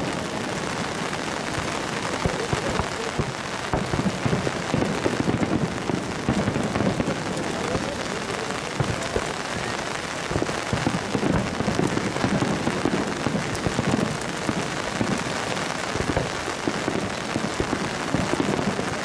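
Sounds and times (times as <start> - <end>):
heavy rain drumming on umbrella: 0.0 - 19.0.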